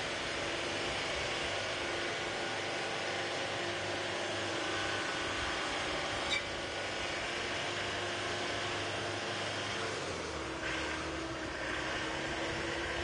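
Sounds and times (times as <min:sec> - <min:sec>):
road train engine and tyres: 0:00.0 - 0:13.0.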